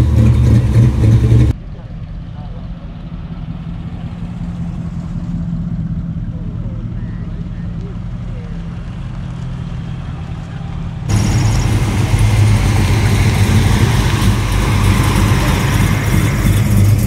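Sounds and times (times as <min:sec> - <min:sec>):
car engines driving past: 0:00.0 - 0:17.0
rough car engine close up: 0:00.0 - 0:17.0.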